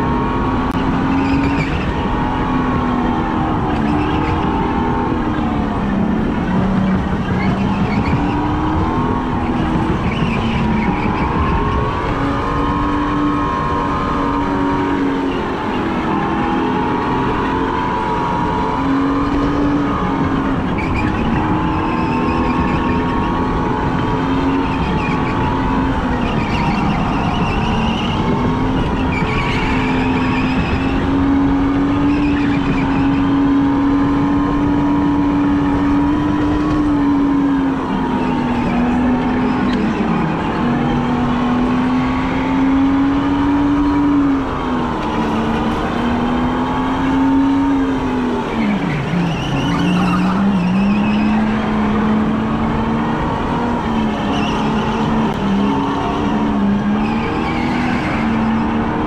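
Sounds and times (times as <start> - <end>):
go-kart motor humming: 0.0 - 59.0
tyre and track noise: 0.0 - 59.0.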